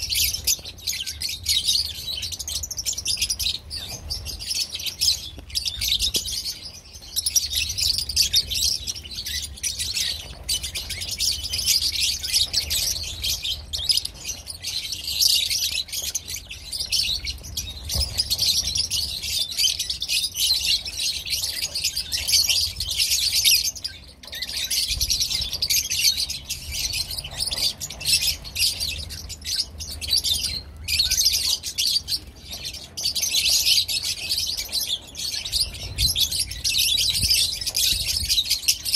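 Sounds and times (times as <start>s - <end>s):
flock of birds chirping: 0.0s - 38.9s.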